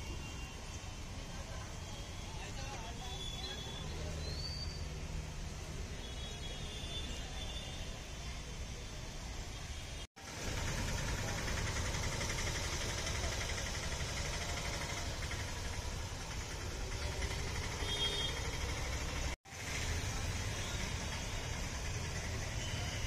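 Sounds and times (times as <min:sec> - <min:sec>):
auto-rickshaw engines running: 0:00.0 - 0:23.0
low rumble of traffic: 0:00.0 - 0:23.0.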